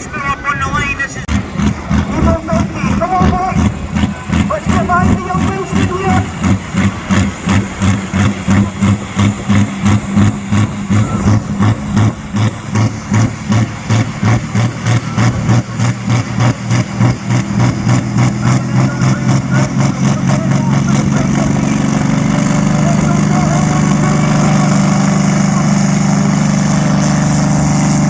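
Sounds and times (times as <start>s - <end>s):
big engine idling with lumpy beat: 0.0s - 28.0s.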